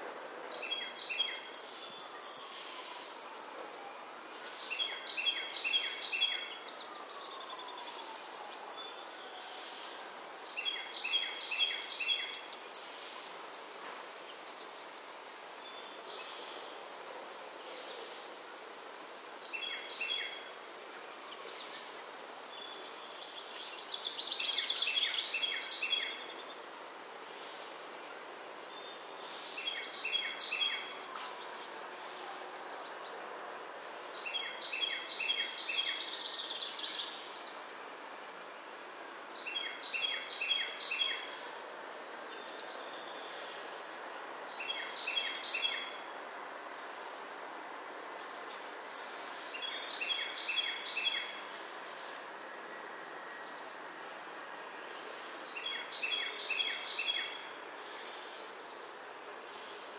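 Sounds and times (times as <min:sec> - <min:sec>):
background hiss: 0:00.0 - 0:59.9
songbird singing: 0:00.4 - 0:18.2, 0:18.8 - 0:37.7, 0:38.6 - 0:46.1, 0:46.7 - 0:59.9.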